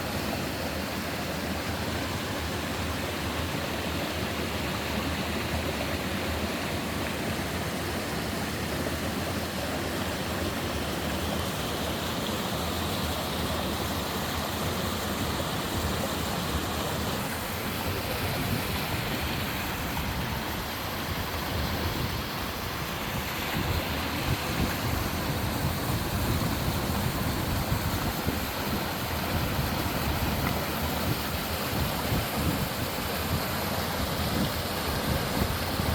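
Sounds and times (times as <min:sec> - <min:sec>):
water rushing over rocks: 0:00.0 - 0:35.9.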